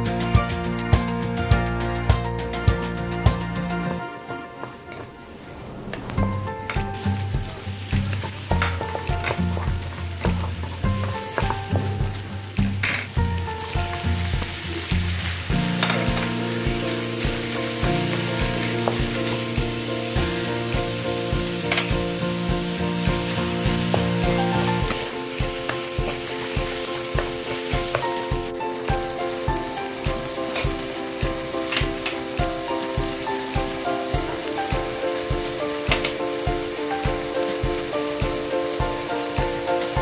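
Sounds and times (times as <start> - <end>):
background music: 0.0 - 40.0
meat and onion sizzling in oil: 6.2 - 40.0.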